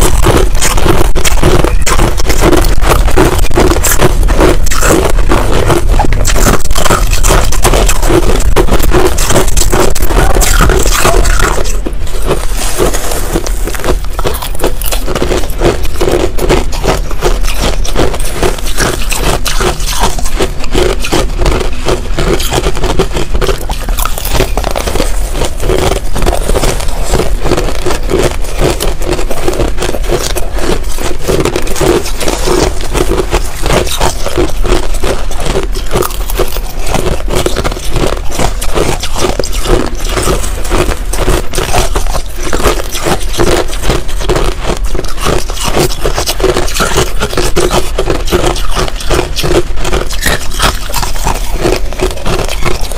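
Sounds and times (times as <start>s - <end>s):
crushed ice crunching: 0.0s - 52.9s.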